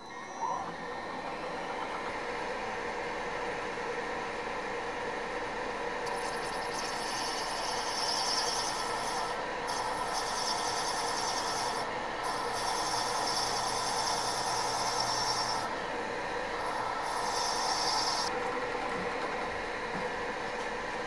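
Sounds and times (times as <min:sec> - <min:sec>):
milling machine drone: 0:00.0 - 0:04.8, 0:05.5 - 0:20.4.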